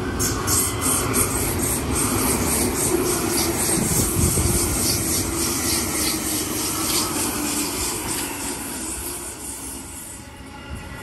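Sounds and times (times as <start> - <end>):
electric train humming: 0.0 - 11.0
rhythmic hiss of train: 0.0 - 11.0.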